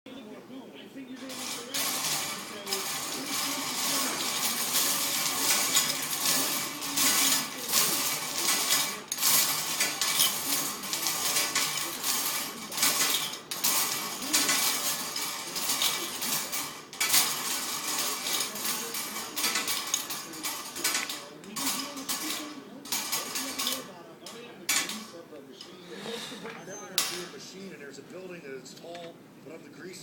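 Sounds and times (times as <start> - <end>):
balls rattling in spinning cage: 1.2 - 25.3.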